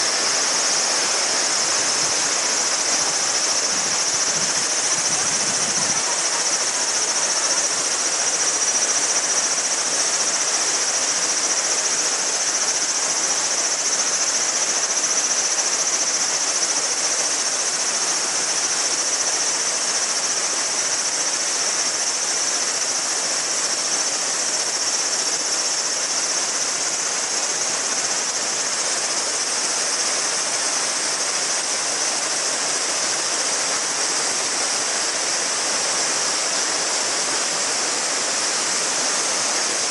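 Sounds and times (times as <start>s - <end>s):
cicadas buzzing: 0.0s - 39.9s
river babbling over stones: 0.0s - 39.9s.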